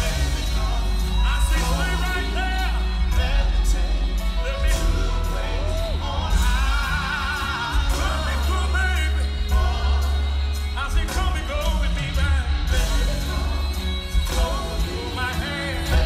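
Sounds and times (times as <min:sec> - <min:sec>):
live band with heavy bass: 0:00.0 - 0:16.0.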